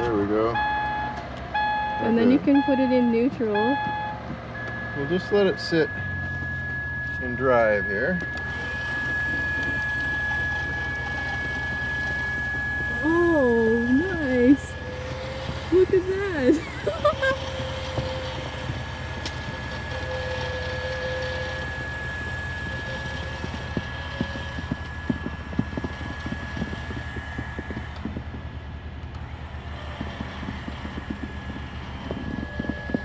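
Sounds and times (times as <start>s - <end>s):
high-pitched tone: 0.0s - 27.2s
vehicle engine rumbling: 0.0s - 33.0s.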